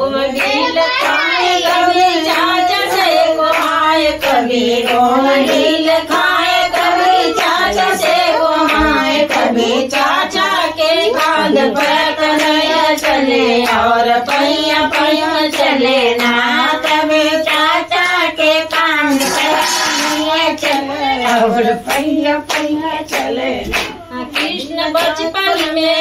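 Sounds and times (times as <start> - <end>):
women singing devotional song: 0.0 - 26.0
steady handclaps: 0.3 - 26.0.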